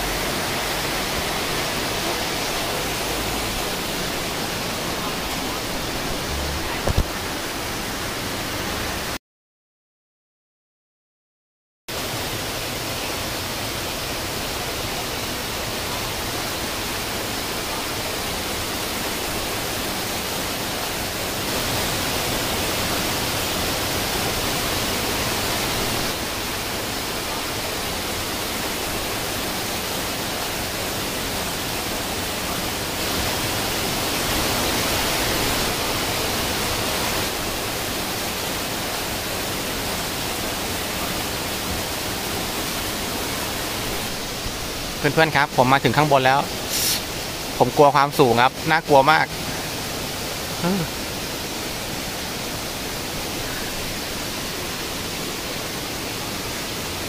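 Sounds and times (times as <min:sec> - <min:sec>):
water rushing in stream: 0:00.0 - 0:09.2, 0:11.9 - 0:57.0.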